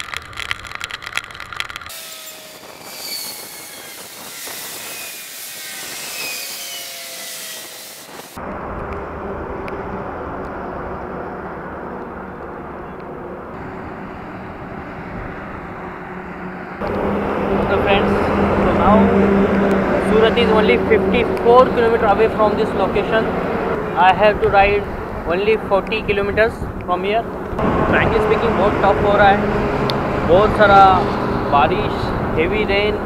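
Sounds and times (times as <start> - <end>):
low wind rumble: 0.0 - 33.0
passing traffic gliding tones: 0.0 - 33.0
wind noise: 0.0 - 33.0.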